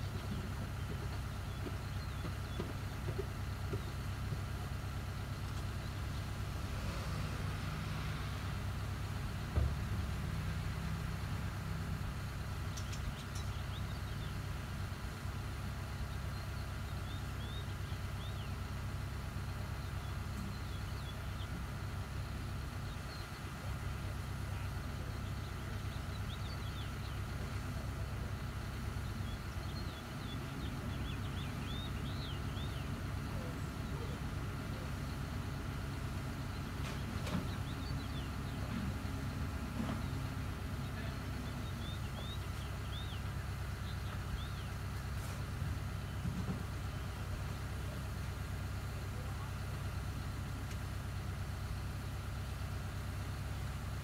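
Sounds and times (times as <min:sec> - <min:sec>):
small birds chirping: 0:00.0 - 0:07.6, 0:08.4 - 0:54.0
diesel engine idling: 0:00.0 - 0:54.0.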